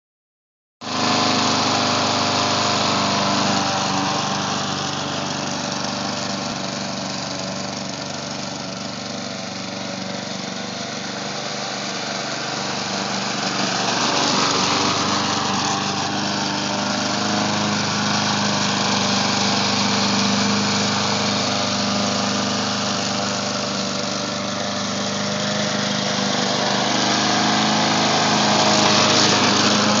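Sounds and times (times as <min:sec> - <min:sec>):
small lawn mower engine running: 0:00.8 - 0:30.0.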